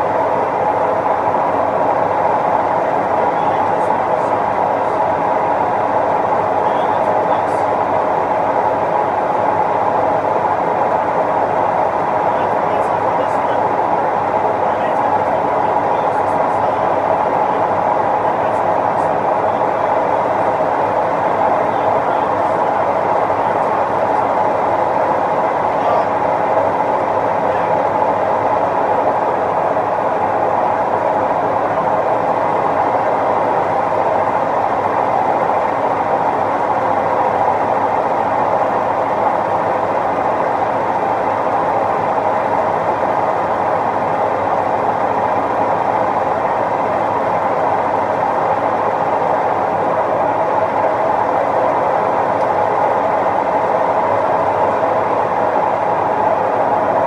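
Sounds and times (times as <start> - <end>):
washing machine spin whir: 0.0 - 57.0.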